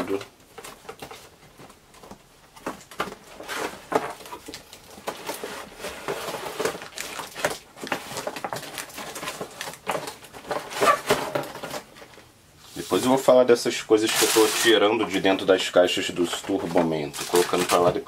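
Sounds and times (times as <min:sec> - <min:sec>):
packaging rustling and scraping: 0:00.0 - 0:18.0.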